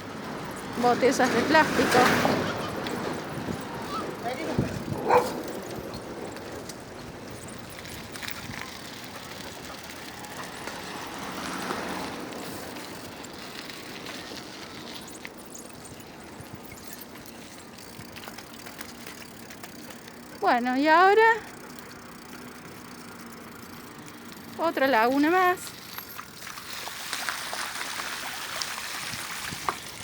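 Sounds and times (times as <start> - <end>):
vehicle passing: 0.0 - 29.1.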